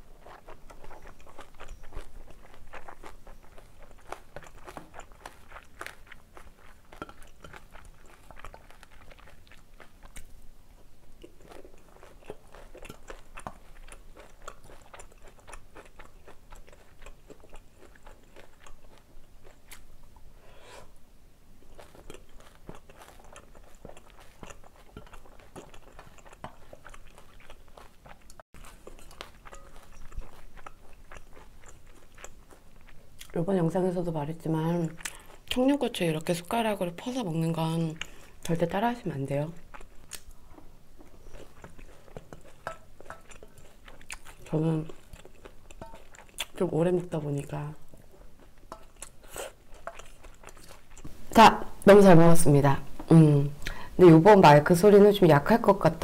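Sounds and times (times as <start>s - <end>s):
wet chewing and crunching: 0.0s - 20.3s, 21.6s - 56.0s.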